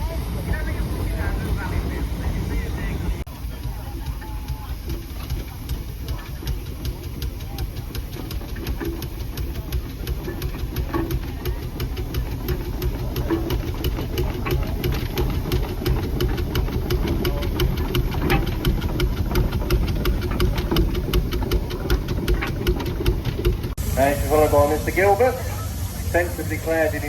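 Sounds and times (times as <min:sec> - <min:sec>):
engine running: 0:00.0 - 0:27.0
rapid sharp ticking: 0:00.4 - 0:27.0.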